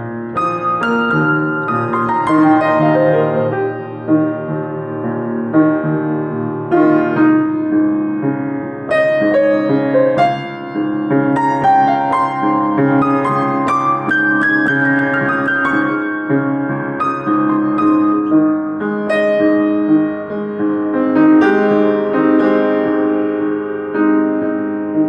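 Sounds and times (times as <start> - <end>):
solo piano: 0.0 - 25.0.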